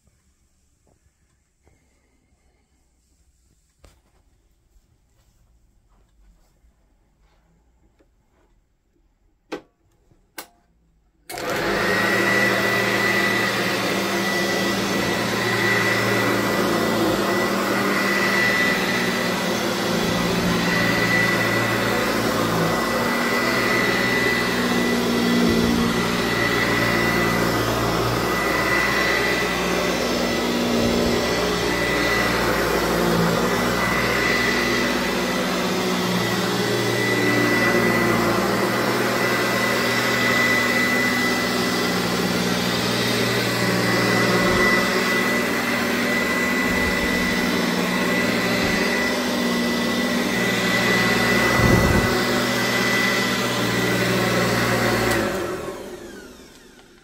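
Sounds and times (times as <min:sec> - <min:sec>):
upright vacuum cleaner on carpet: 0:11.3 - 0:57.0.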